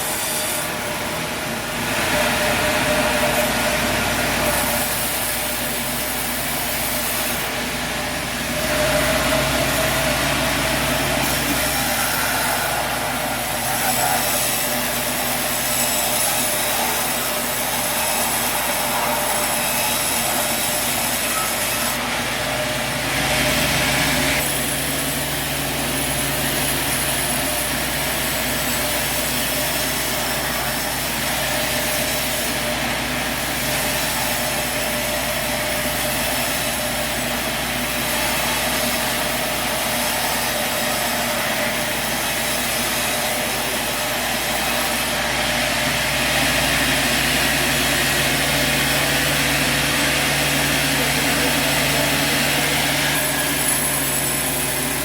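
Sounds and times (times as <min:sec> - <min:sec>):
saw cutting through log: 0:00.0 - 0:55.0
sawmill machine running: 0:00.0 - 0:55.0.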